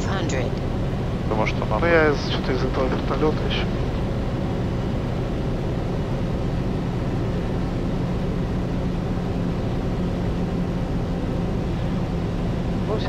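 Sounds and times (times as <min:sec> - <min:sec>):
aircraft piston engine droning: 0:00.0 - 0:13.0.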